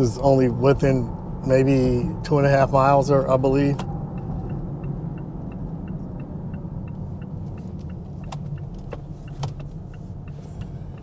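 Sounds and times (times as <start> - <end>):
car driving rumble: 0.0 - 11.0
faint regular ticking: 0.0 - 11.0.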